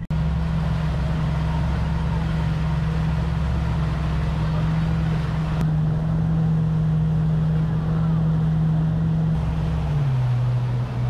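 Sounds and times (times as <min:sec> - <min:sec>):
churning wake rushing: 0:00.0 - 0:11.0
outboard motor running: 0:00.0 - 0:11.0.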